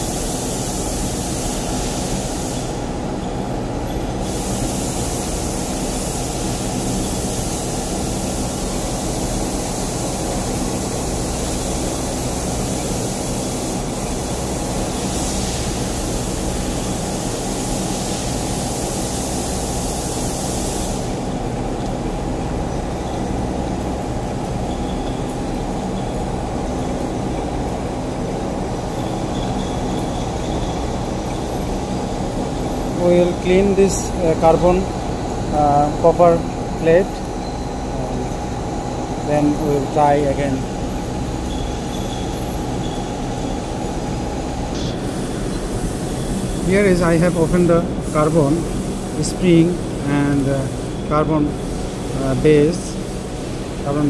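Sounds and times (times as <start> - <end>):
high hiss: 0.0 - 54.0
machinery humming: 0.0 - 54.0.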